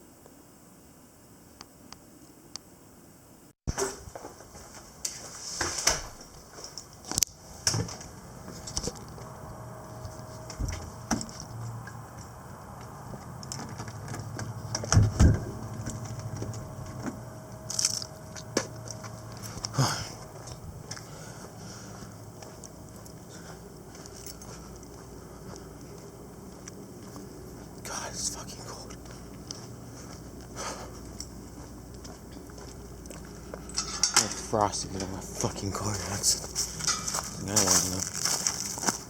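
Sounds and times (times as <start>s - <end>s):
low steady hum: 5.8s - 39.0s.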